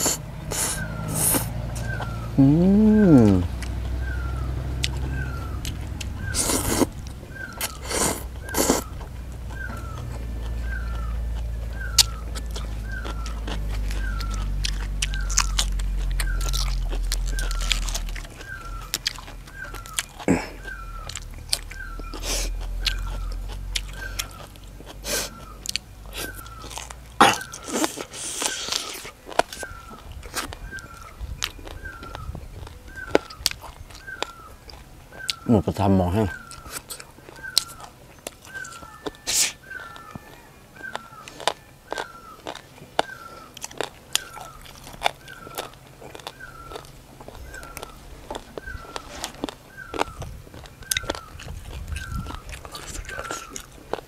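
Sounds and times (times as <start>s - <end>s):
wet mouth sounds: 0.0s - 3.8s, 5.7s - 11.0s, 11.8s - 34.3s, 40.9s - 54.0s
faint chirp: 0.0s - 53.7s
chewing and crunching food: 0.0s - 54.0s.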